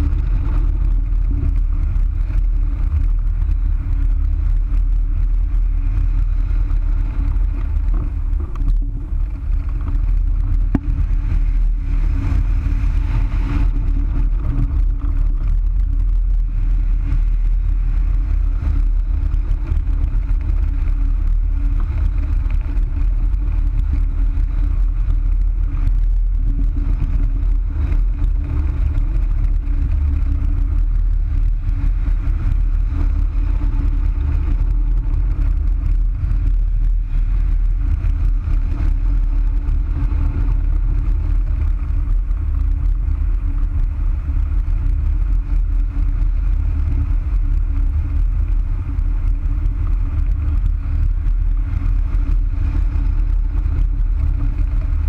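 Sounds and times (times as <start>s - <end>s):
steady drone: 0.0s - 55.0s
wind buffeting microphone: 0.0s - 55.0s.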